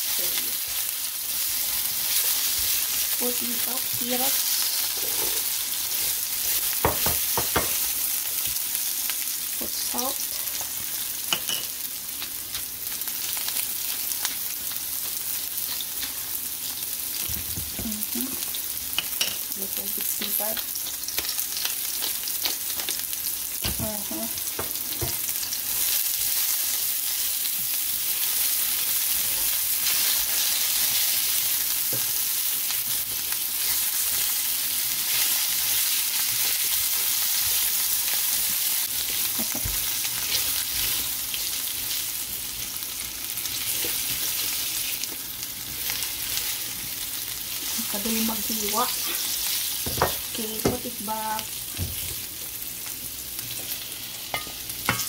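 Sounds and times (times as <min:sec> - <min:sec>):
potatoes sizzling in oil: 0:00.0 - 0:55.0.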